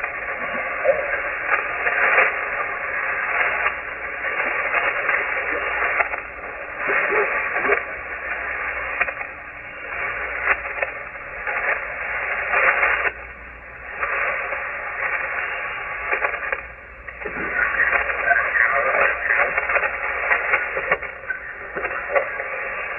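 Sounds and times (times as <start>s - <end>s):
radio crackles: 0.0s - 22.9s
radio static and hiss: 0.0s - 22.9s.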